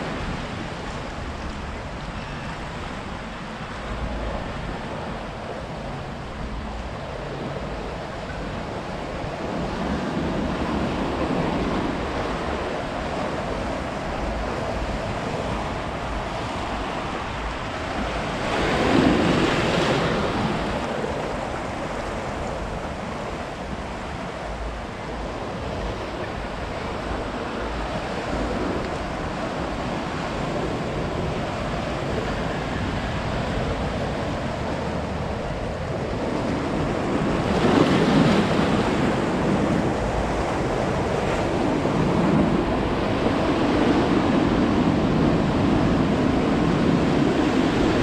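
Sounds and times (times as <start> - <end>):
ocean surf washing onto beach: 0.0 - 48.0
wind rumbling on microphone: 0.0 - 48.0
wave breaking: 7.5 - 48.0.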